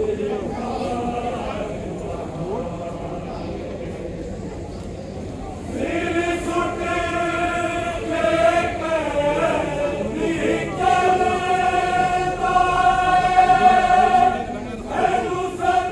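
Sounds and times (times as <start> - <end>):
mourners singing a chant: 0.0 - 3.9, 5.6 - 15.9.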